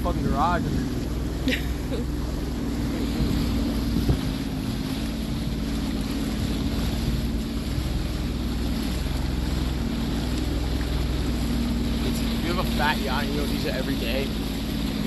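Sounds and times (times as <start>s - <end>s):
wind buffeting microphone: 0.0s - 1.5s, 2.4s - 15.0s
jet ski engine running: 0.0s - 15.0s
water rushing past hull: 0.0s - 15.0s.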